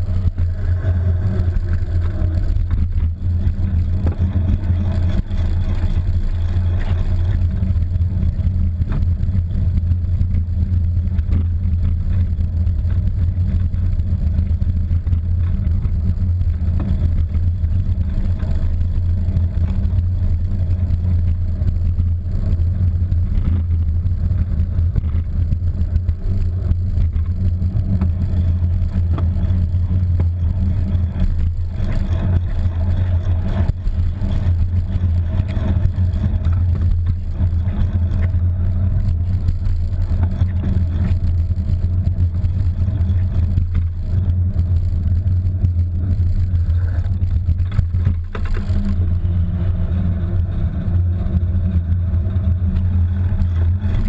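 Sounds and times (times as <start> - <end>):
road vibration rumble: 0.0 - 54.0.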